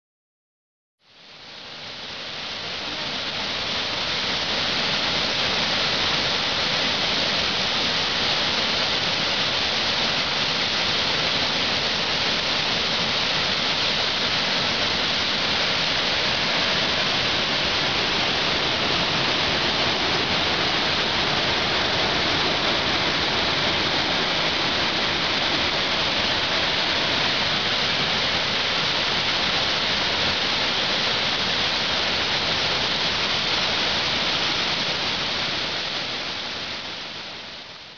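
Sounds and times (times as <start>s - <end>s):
waterfall rushing: 1.2s - 37.9s.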